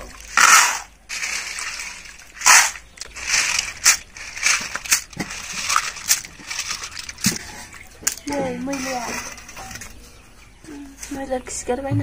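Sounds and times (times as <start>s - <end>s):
snail shells scraping and clattering: 0.0s - 11.4s
water sloshing: 0.0s - 12.0s.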